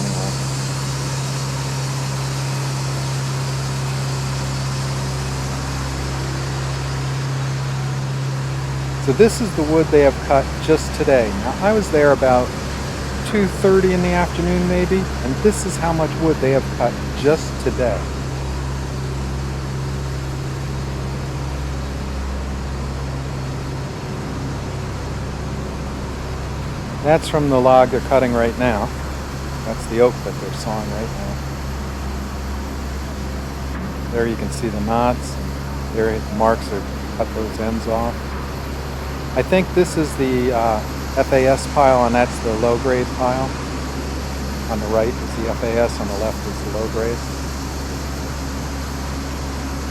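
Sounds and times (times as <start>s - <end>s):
machinery humming and hissing: 0.0s - 49.9s.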